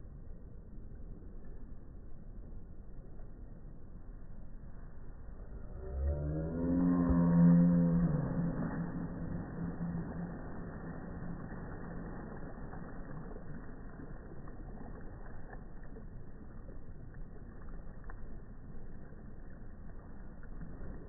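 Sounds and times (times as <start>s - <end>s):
low steady hum: 0.0s - 21.0s
pool water splashing: 0.0s - 21.0s.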